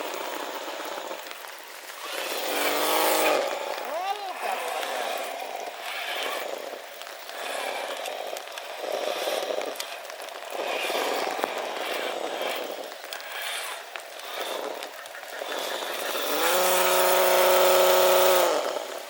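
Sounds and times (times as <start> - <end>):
toy car electric motor revving: 0.0 - 19.0.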